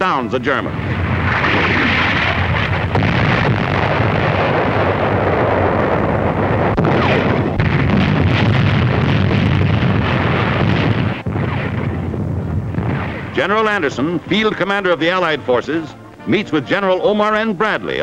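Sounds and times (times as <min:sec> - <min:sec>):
artillery fire and explosions: 0:00.0 - 0:15.2.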